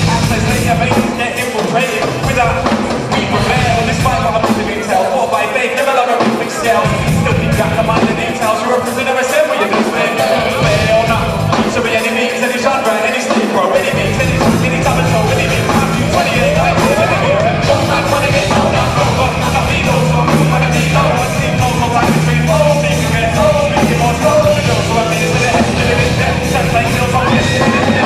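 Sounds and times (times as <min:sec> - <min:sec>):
rock band music: 0:00.0 - 0:28.0.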